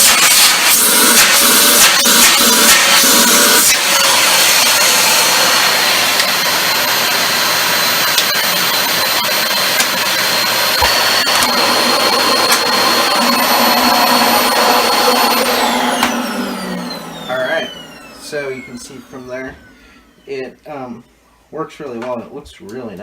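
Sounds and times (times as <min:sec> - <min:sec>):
vacuum cleaner running on carpet: 0:00.0 - 0:20.3.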